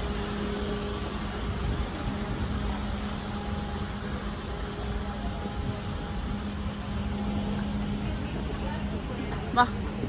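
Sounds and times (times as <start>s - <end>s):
faint constant hum: 0.0s - 10.0s
low rumbling background noise: 0.0s - 10.0s.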